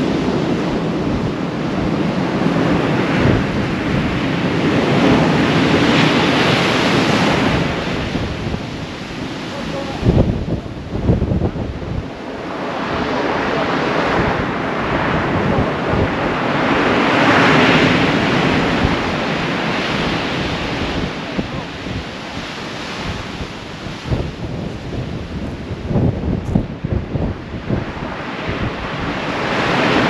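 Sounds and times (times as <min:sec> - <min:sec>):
waves crashing on beach: 0:00.0 - 0:30.0
wind buffeting microphone: 0:00.0 - 0:30.0.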